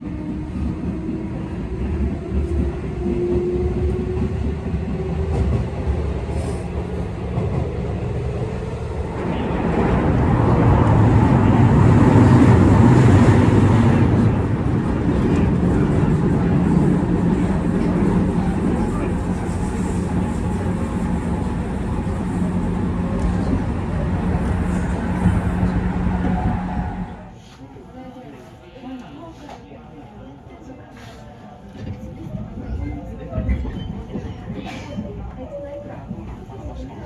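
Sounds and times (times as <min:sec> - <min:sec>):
train rumbling on rails: 0:00.0 - 0:27.5, 0:31.8 - 0:37.0.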